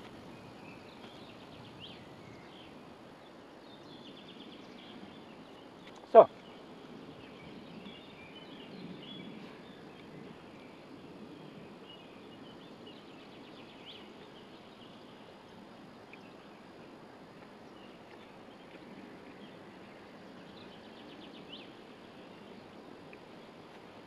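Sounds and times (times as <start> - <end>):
small birds chirping and trilling: 0.1 - 23.6.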